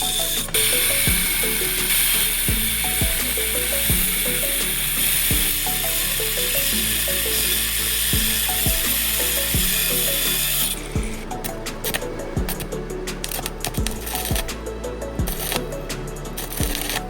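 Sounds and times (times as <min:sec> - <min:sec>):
high hissing noise: 0:00.0 - 0:17.0
music with steady beat: 0:00.0 - 0:17.0.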